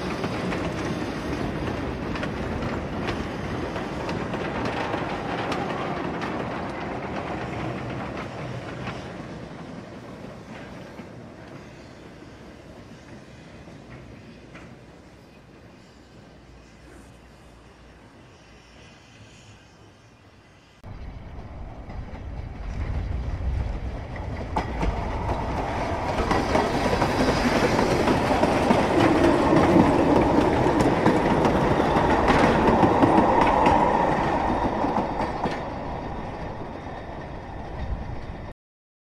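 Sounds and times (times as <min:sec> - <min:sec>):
train wheels clacking over rails: 0:00.0 - 0:16.4, 0:21.3 - 0:38.5.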